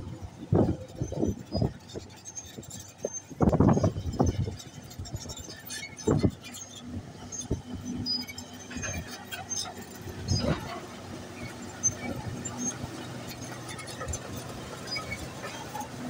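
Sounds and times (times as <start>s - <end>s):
bulldozer rumble: 0.0s - 16.0s
high squeaks: 0.9s - 16.0s.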